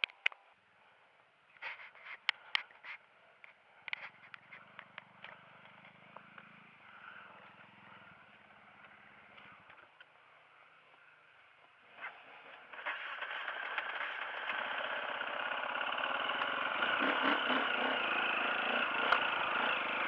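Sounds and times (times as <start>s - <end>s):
motorcycle engine idling: 1.9s - 20.0s.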